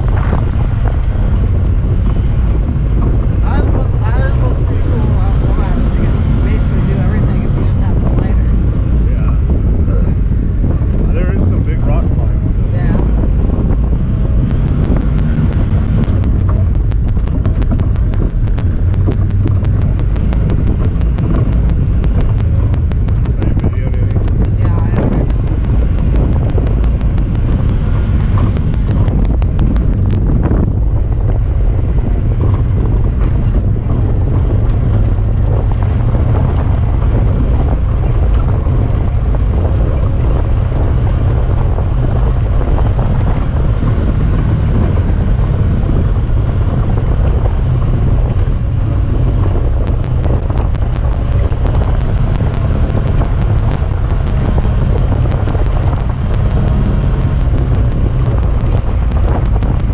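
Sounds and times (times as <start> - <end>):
fast regular ticking: 0.0 - 9.5, 12.7 - 31.4, 32.2 - 59.9
vehicle engine running: 0.0 - 59.9
wind buffeting microphone: 0.0 - 59.9.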